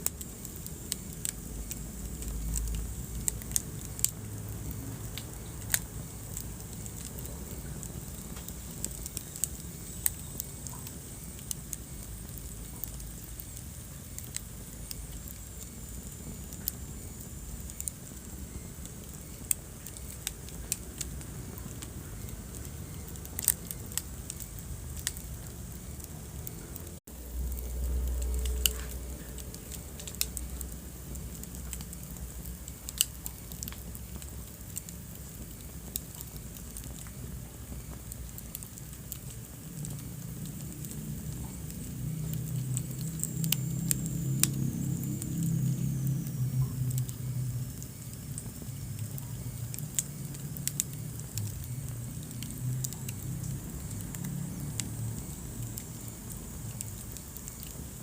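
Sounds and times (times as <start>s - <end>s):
faint high hiss: 0.0s - 58.0s
low rumble of flames: 0.0s - 58.0s
wood fire crackling: 0.0s - 58.0s.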